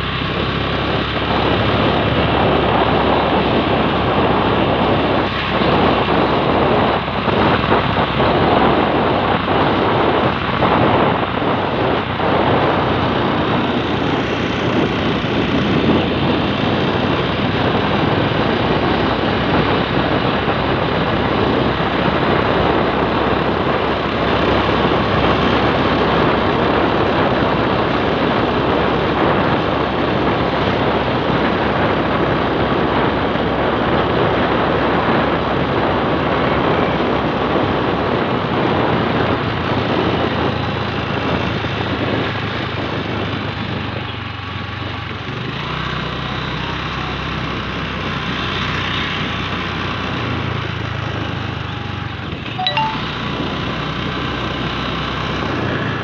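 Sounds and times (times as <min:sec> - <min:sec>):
motorbike engine and tyres: 0:00.0 - 0:56.0
wind rushing over microphone: 0:00.0 - 0:56.0.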